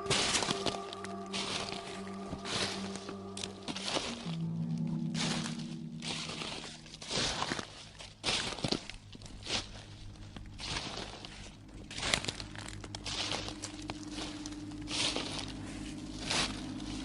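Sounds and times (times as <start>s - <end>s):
crunching and rustling: 0.0s - 17.0s
low steady hum: 0.0s - 17.0s.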